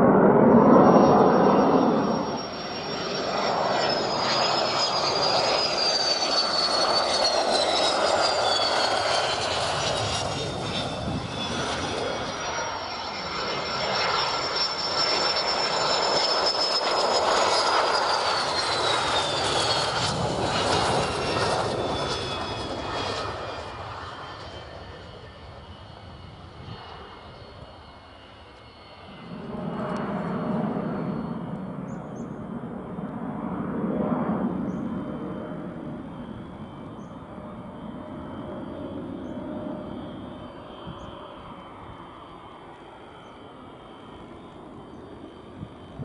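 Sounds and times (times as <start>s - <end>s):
jet engines roaring at takeoff: 0.0s - 46.0s.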